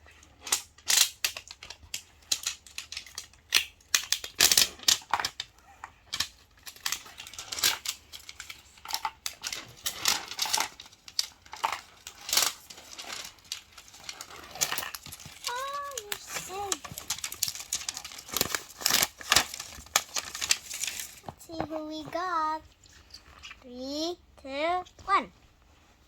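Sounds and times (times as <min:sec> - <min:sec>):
packaging crinkling and tearing: 0:00.4 - 0:05.5, 0:06.1 - 0:22.2.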